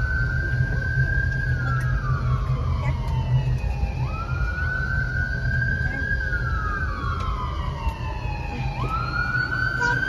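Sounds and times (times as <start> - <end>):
boat siren wailing: 0.0 - 10.0.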